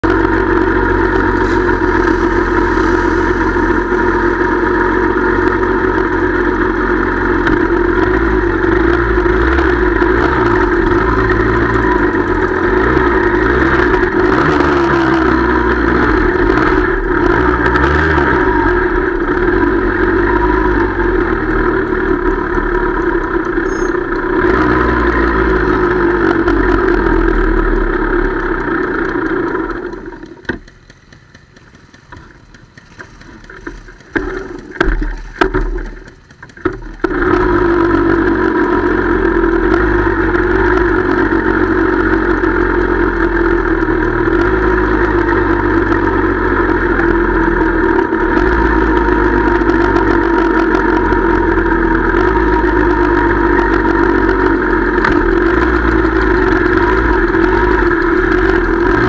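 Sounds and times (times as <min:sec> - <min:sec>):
motorcycle engines idling and revving: 0:00.0 - 0:59.0.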